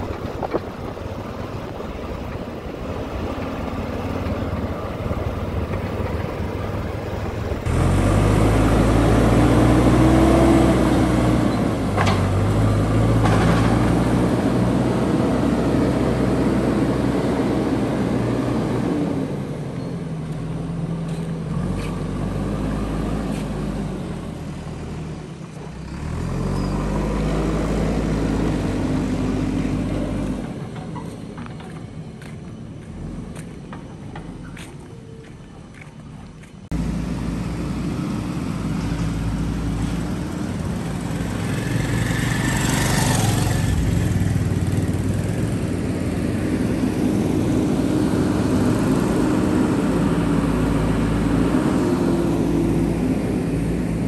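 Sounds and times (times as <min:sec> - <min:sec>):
diesel engine revving: 0:00.0 - 0:31.2, 0:36.6 - 0:54.0.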